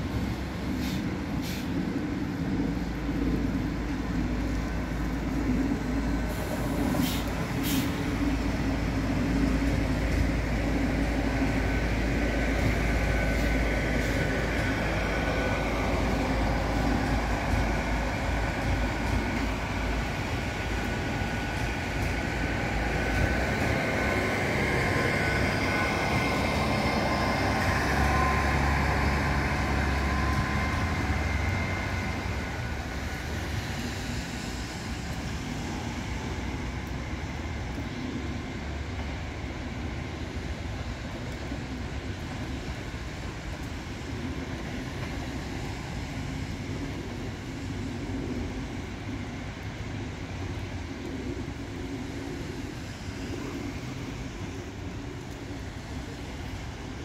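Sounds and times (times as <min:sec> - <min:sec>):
high whine: 0:00.0 - 0:57.0
low diesel engine drone: 0:00.0 - 0:57.0
rail noise: 0:00.0 - 0:57.0.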